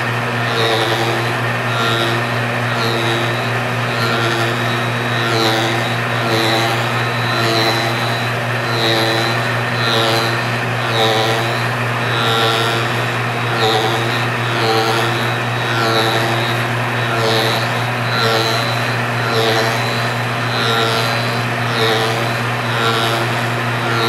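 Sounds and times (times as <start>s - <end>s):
lathe fly cutter cutting wood: 0.0s - 24.0s
steady motor hum: 0.0s - 24.0s.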